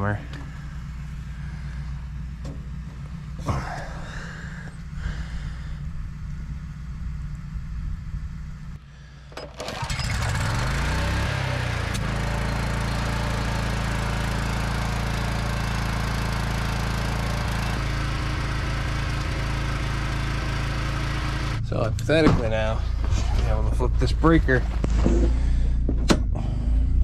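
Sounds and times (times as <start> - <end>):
generator engine running: 0.0 - 27.0.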